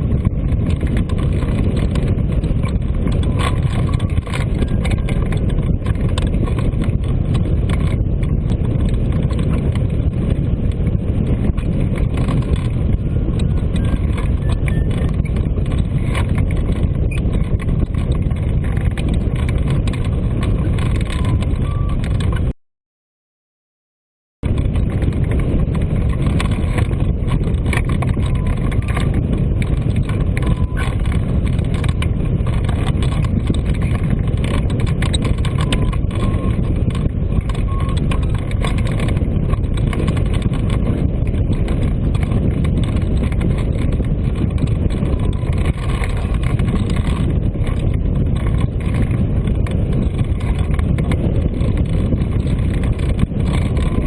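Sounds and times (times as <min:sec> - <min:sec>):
loud wind rushing over microphone: 0:00.0 - 0:22.6, 0:24.4 - 0:54.0.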